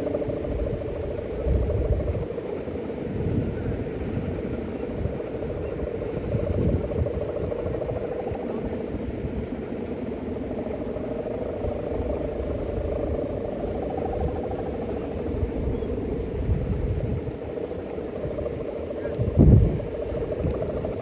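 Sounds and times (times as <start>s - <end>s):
steady droning hum: 0.0s - 21.0s
wind rumbling on microphone: 0.0s - 21.0s.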